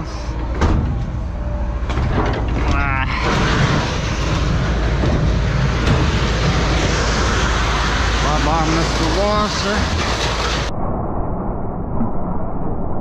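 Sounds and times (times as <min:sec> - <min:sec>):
loud steady rushing noise: 0:00.0 - 0:10.8
vehicle engine rumbling: 0:00.0 - 0:10.8.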